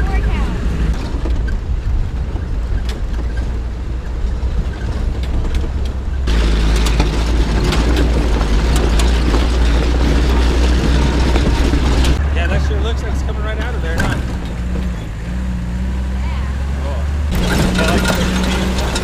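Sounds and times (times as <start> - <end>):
jeep engine hum: 0.0 - 19.0
wind and road noise: 0.0 - 19.0
knocks and rattles: 0.8 - 15.3, 17.3 - 19.0.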